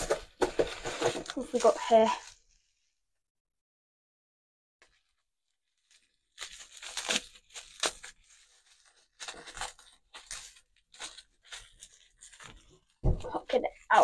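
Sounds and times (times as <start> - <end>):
bubble wrap crinkling and tearing: 0.0 - 2.8, 4.8 - 14.0.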